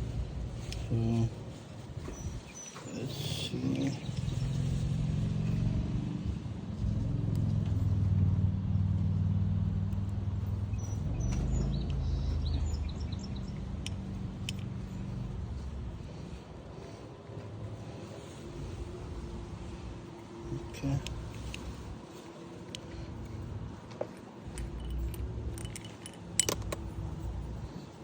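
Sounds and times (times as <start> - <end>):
low engine hum: 0.0 - 28.0.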